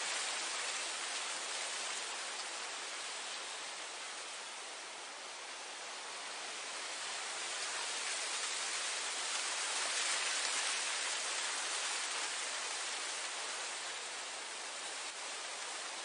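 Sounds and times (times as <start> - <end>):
wind blowing through grass: 0.0 - 16.0.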